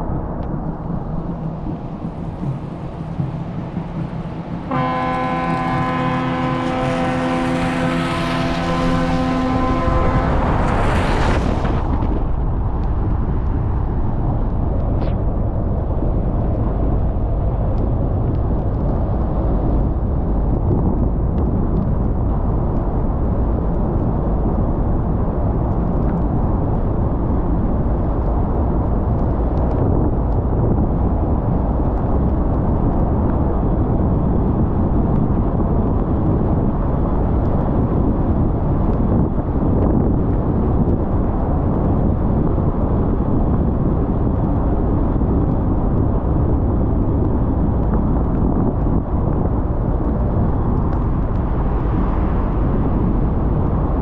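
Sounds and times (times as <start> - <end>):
moving car rumble: 0.0 - 54.0.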